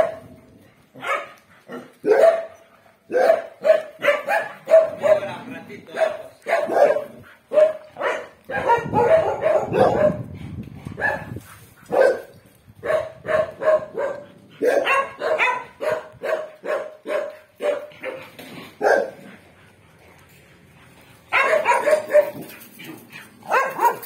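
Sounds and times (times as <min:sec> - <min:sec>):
dogs barking: 0:00.0 - 0:00.3, 0:00.9 - 0:10.3, 0:10.9 - 0:19.5, 0:21.3 - 0:24.0.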